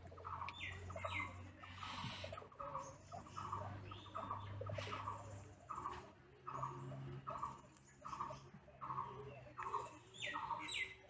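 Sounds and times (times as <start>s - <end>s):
birds chirping: 0.0s - 11.0s
rabbits chewing grass: 0.0s - 11.0s.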